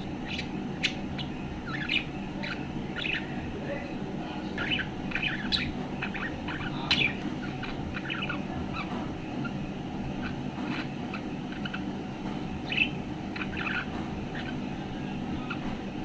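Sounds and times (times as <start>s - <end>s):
budgerigar chirping and warbling: 0.0s - 3.4s, 4.5s - 12.0s, 12.6s - 14.7s.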